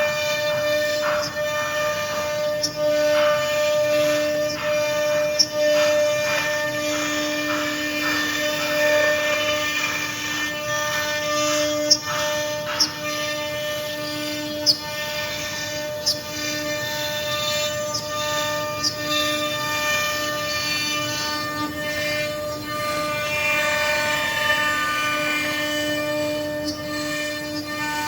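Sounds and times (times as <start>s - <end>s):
router spindle whining: 0.0s - 28.0s.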